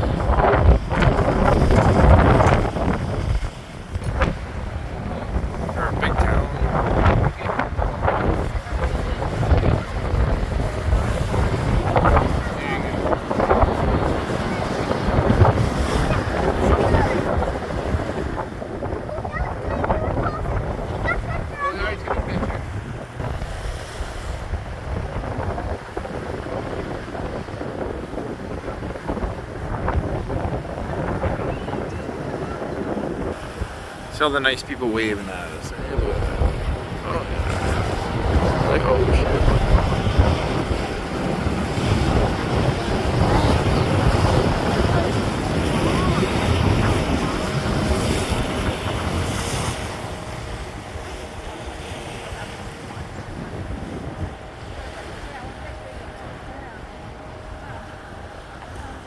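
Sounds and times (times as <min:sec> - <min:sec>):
water washing: 0:00.0 - 0:59.0
wind buffeting microphone: 0:00.0 - 0:59.0.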